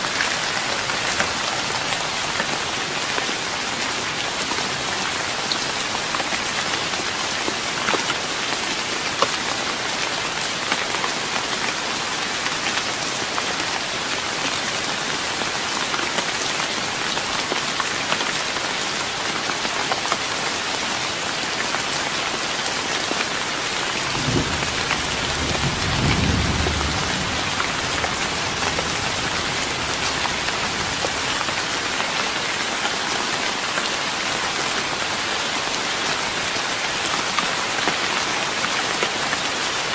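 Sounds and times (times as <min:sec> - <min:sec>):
rain pattering on wooden deck: 0:00.0 - 0:39.9.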